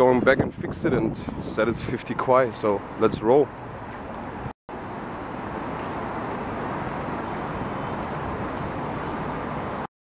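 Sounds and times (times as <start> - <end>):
steady road and vehicle noise: 0.0 - 9.9.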